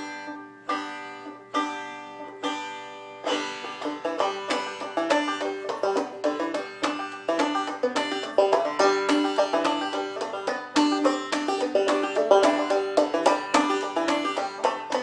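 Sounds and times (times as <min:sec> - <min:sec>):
banjo picking: 0:00.0 - 0:15.0.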